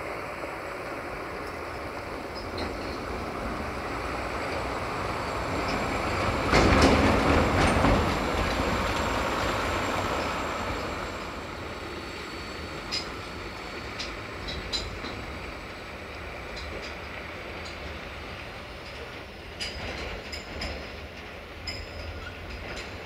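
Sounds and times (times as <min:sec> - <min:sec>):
heavy vehicle rumbling and clattering: 0:00.0 - 0:23.0.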